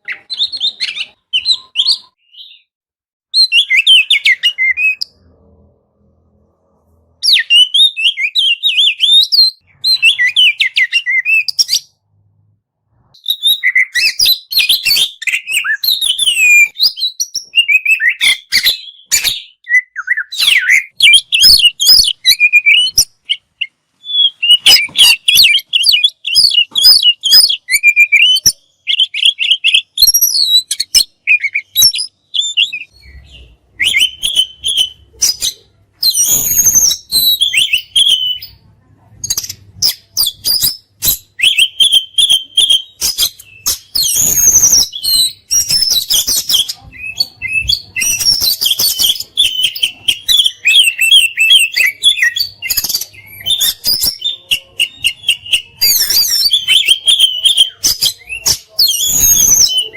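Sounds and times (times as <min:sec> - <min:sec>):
bird singing whistled phrases: 0:00.0 - 0:02.7, 0:03.3 - 0:05.2, 0:07.2 - 0:12.0, 0:13.2 - 0:38.6, 0:39.3 - 0:59.9.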